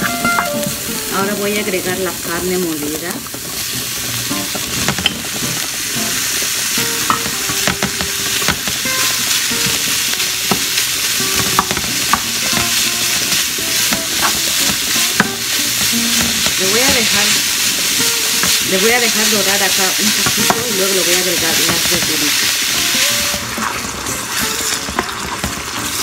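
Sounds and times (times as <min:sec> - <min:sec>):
meat sizzling in a pan: 0:00.0 - 0:26.0.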